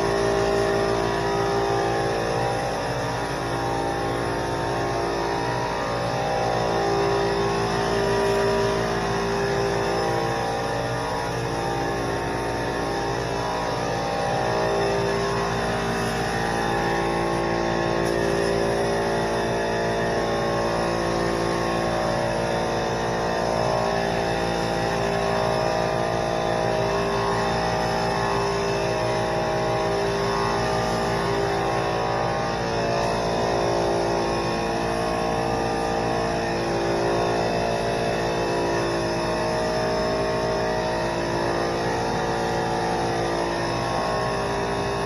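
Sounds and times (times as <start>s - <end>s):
spray gun hissing: 0.0s - 40.6s
air compressor running: 0.0s - 45.0s.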